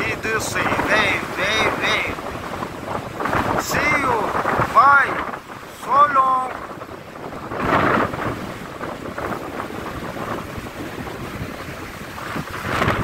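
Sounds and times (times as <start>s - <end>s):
strong wind: 0.0s - 13.0s
waves washing in: 0.0s - 13.0s.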